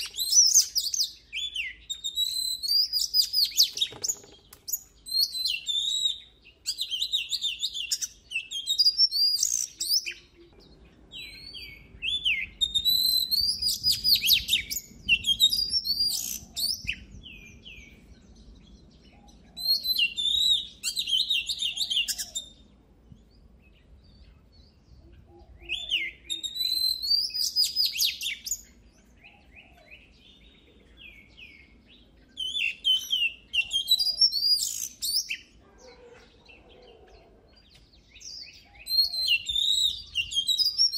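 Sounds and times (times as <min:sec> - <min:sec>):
bird singing whistled notes: 0:00.0 - 0:35.6, 0:37.6 - 0:40.9.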